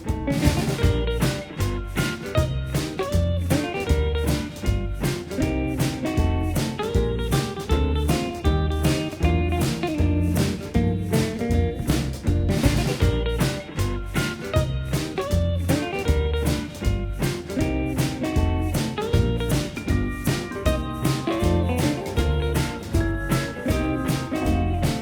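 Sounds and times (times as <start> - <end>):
upbeat bluesy music: 0.0 - 25.0.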